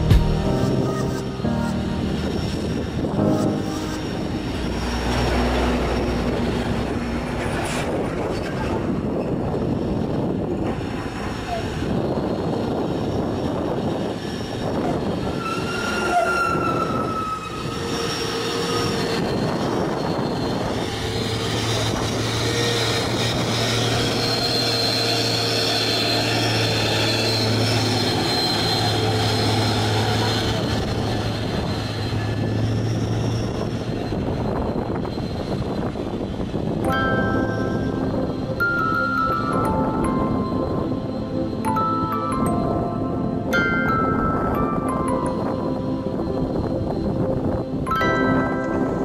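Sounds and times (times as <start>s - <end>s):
truck engine drone: 0.0s - 16.0s, 16.6s - 49.0s.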